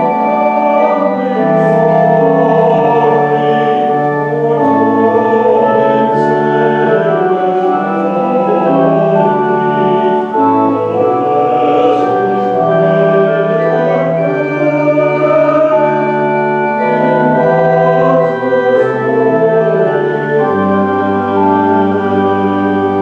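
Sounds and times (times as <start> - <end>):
organ playing sustained chords: 0.0 - 23.0.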